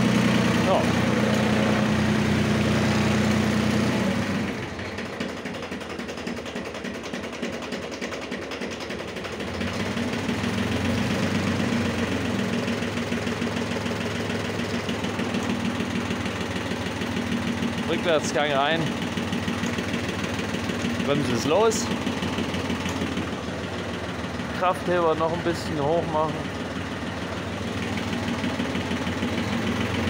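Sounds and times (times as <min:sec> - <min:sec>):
tractor diesel engine idling: 0:00.0 - 0:30.0.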